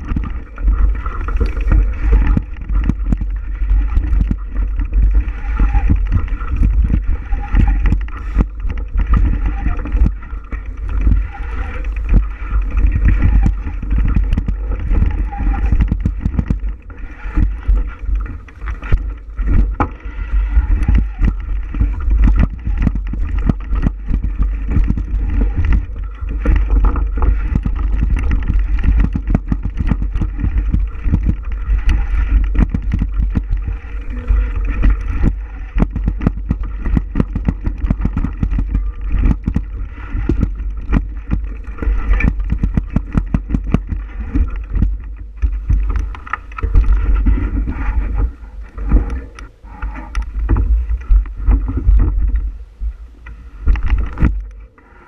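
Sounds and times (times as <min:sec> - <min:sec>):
bicycle knocks and rattles: 0:00.0 - 0:49.3, 0:53.7 - 0:54.6
wind rumble on microphone: 0:00.0 - 0:55.0.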